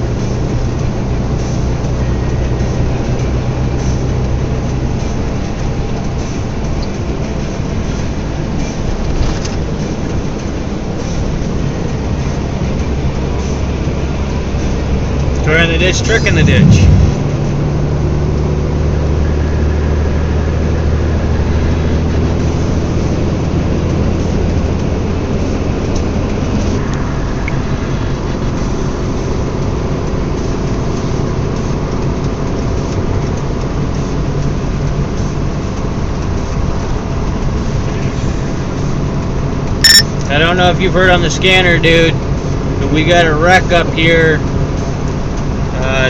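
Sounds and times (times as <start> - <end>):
car engine hum and road noise: 0.0 - 46.0.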